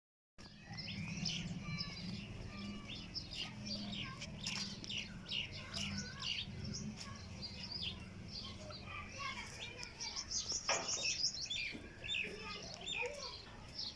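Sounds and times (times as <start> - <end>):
small birds chirping: 0.4 - 13.9.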